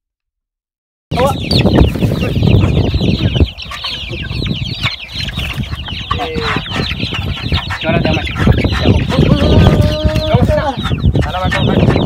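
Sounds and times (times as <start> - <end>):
chicks peeping: 1.1 - 12.0.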